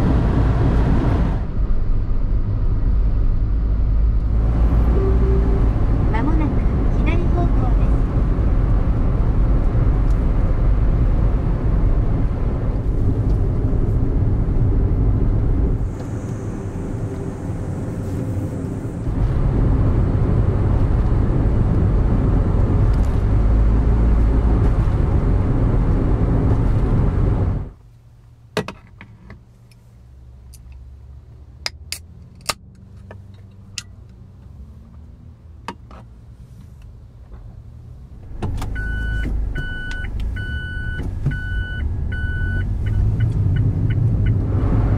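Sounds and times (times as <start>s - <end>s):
car engine rumble: 0.0s - 44.9s.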